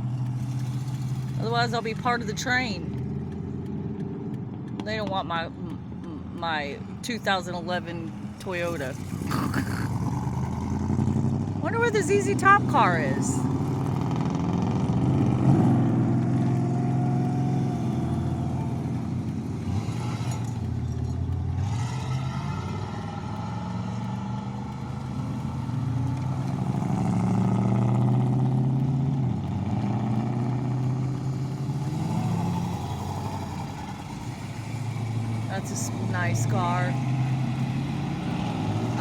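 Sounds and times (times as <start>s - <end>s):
old cars driving past: 0.0s - 39.0s.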